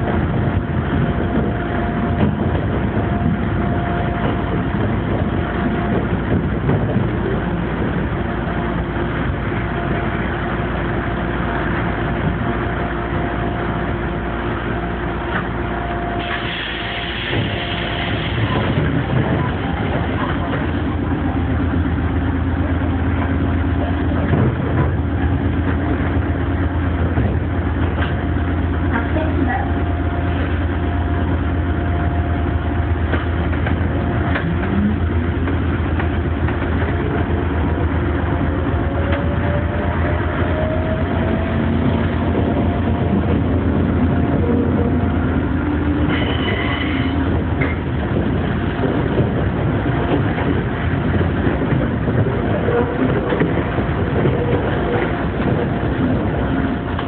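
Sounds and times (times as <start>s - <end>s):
electric train humming: 0.0s - 57.0s.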